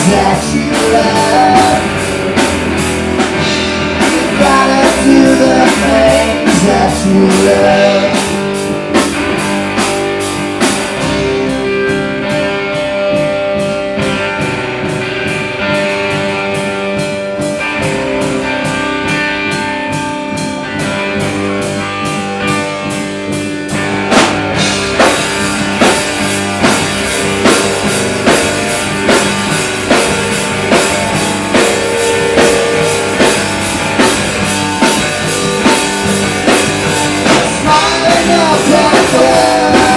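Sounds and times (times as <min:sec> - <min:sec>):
bass guitar: 0:00.0 - 0:39.9
distorted electric guitar: 0:00.0 - 0:39.9
drum kit: 0:00.0 - 0:39.9.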